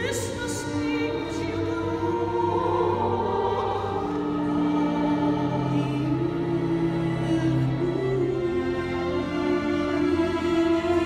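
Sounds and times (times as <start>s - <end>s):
chorus singing: 0.0s - 11.0s
soprano singing: 0.0s - 11.0s
string orchestra: 0.0s - 11.0s.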